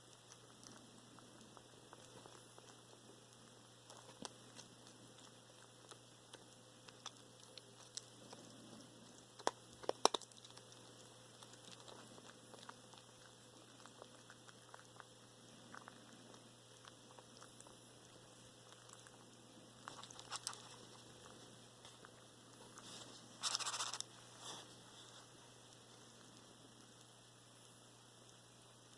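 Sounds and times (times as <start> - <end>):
cat chewing with clicks and crunches: 0.0 - 28.9.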